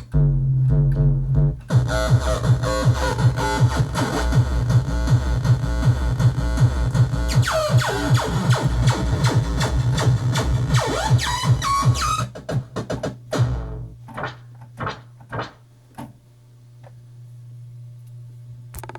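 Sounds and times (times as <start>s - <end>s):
electronic synthesizer pattern: 0.2s - 15.6s.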